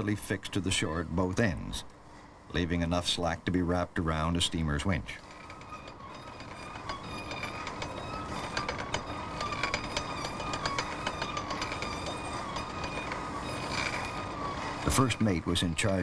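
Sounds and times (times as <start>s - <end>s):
faint wavering whine: 0.0s - 16.0s
steam winch clattering: 2.6s - 16.0s.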